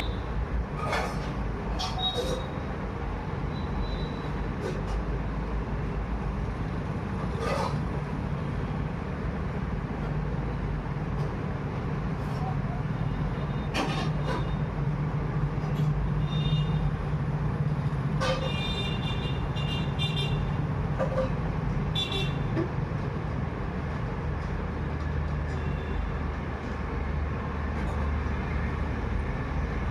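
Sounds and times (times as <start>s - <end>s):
road traffic: 0.0s - 29.9s.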